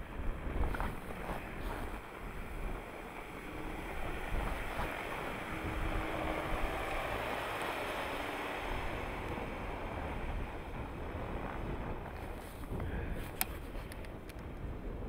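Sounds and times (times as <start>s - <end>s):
tyres on packed snow: 0.0s - 14.2s
car engine hum: 0.0s - 14.4s
wind buffeting microphone: 0.0s - 15.0s.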